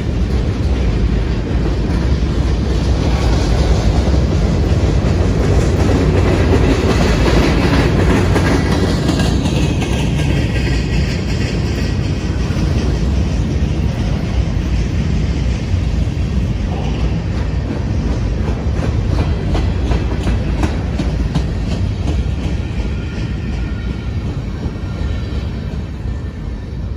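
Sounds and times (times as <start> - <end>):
freight train wheels rumbling: 0.0 - 26.9.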